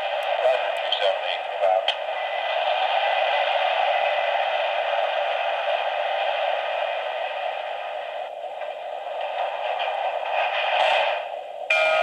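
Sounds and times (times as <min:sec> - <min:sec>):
tinny radio static hiss: 0:00.0 - 0:11.7.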